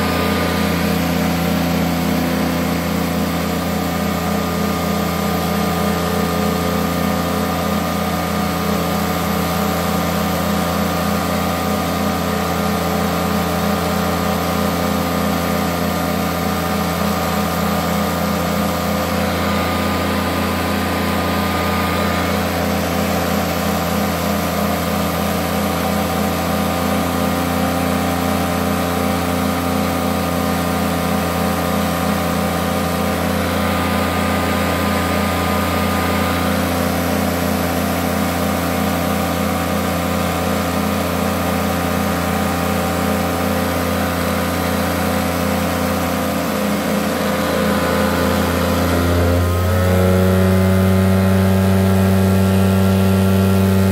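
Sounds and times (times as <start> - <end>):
upright vacuum cleaner running: 0.0 - 53.9.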